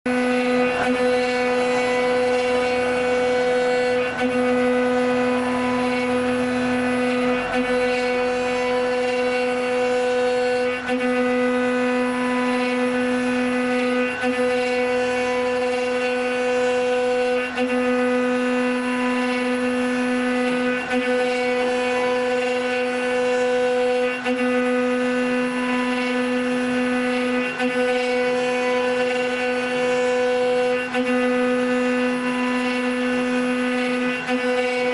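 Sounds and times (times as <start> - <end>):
router spindle high whine: 0.0 - 34.9.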